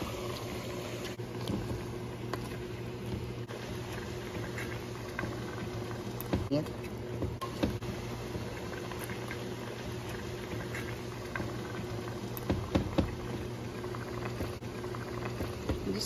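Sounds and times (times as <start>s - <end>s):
sauce bubbling in pot: 0.0s - 16.0s.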